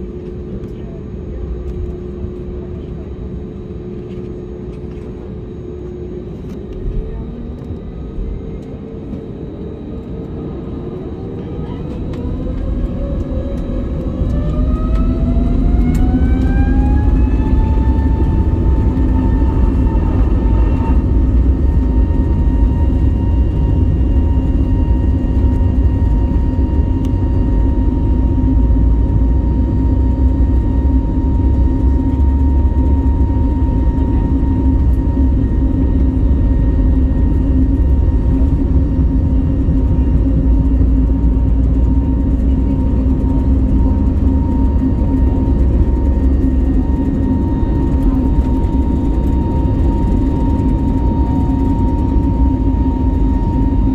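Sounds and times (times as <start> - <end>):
jet engine whine: 0.0 - 53.9
low engine rumble: 0.0 - 53.9.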